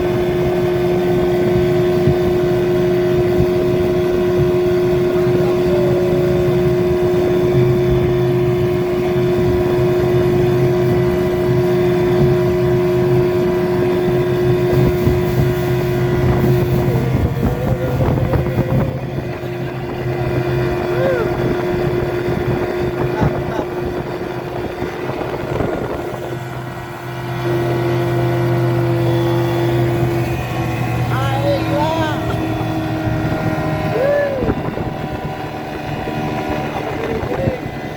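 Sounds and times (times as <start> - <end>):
outboard motor running: 0.0 - 37.9
wind on microphone: 0.0 - 37.9.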